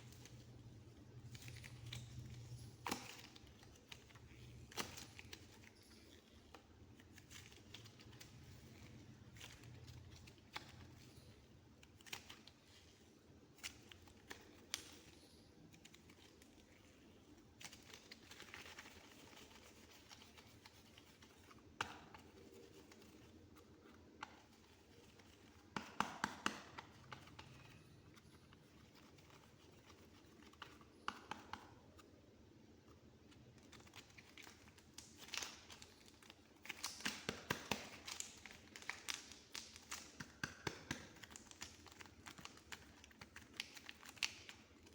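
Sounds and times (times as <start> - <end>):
clay squishing with sticky clicks: 0.1 - 44.9.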